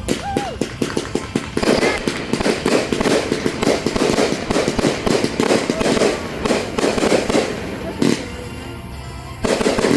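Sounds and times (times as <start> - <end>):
fireworks popping and crackling: 0.0 - 8.8, 9.4 - 9.9.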